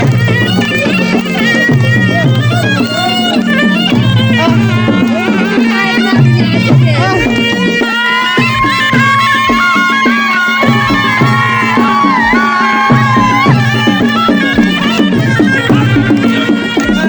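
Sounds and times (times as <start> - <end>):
shawm-like wind instrument: 0.0 - 17.0
steady drum beat: 0.0 - 17.0.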